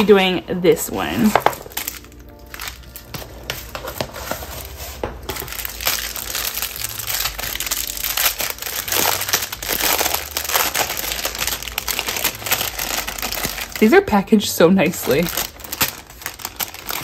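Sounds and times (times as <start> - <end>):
plastic packaging crinkling: 0.9 - 17.0.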